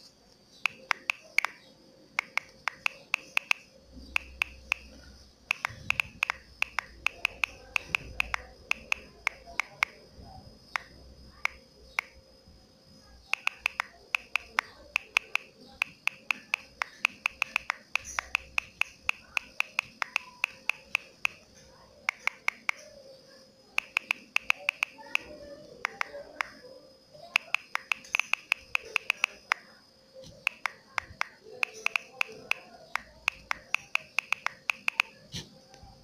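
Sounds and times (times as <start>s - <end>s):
touchscreen keyboard clicks: 0.5s - 10.0s, 10.8s - 12.2s, 13.3s - 21.5s, 22.1s - 22.9s, 23.8s - 26.6s, 27.2s - 29.7s, 30.3s - 35.9s.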